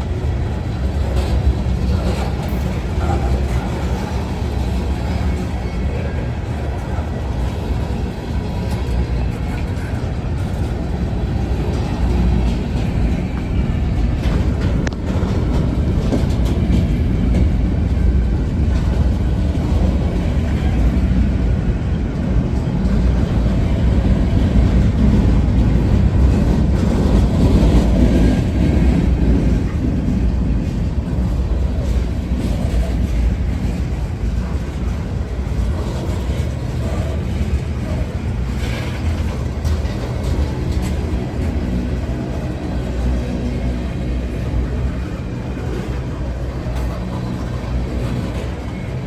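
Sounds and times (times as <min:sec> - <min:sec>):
freight train rolling past: 0:00.0 - 0:49.0.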